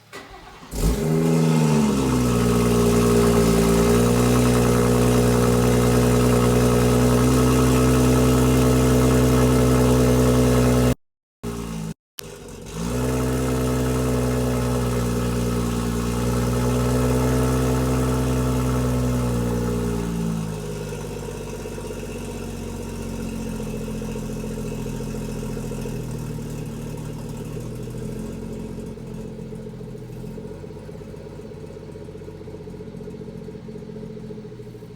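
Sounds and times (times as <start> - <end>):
car engine starting and idling: 0.0 - 34.9.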